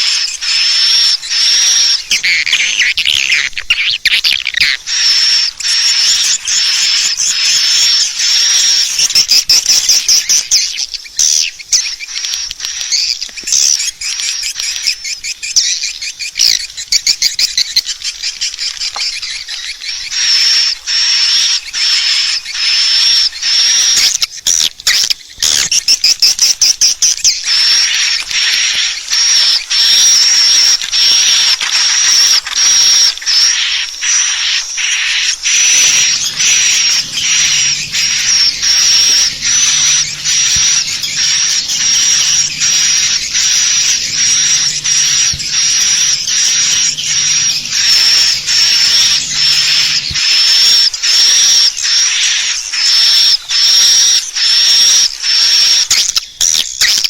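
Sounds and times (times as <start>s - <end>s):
swiftlets twittering: 0.0s - 57.0s.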